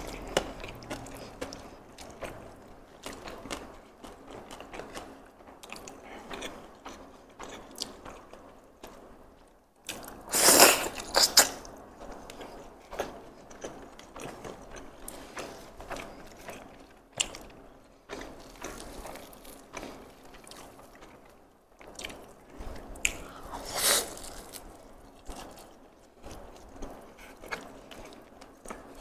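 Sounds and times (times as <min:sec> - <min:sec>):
chewing sounds: 0:00.0 - 0:09.0, 0:09.8 - 0:29.0.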